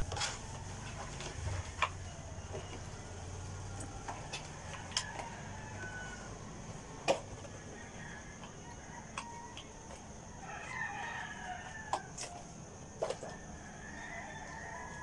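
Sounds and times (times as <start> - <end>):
rooster crowing: 0.0 - 15.0.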